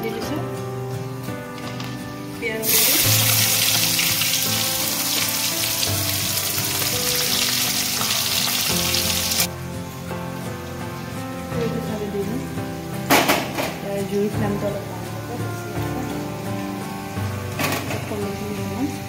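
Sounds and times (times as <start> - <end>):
background music: 0.0 - 19.0
onions sizzling in hot oil: 2.2 - 19.0.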